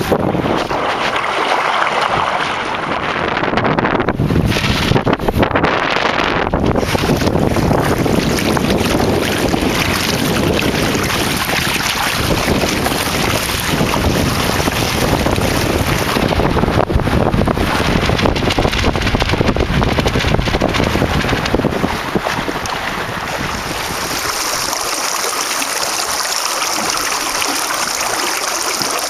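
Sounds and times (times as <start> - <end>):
water splashing along hull: 0.0 - 29.0
wind buffeting microphone: 0.0 - 29.0.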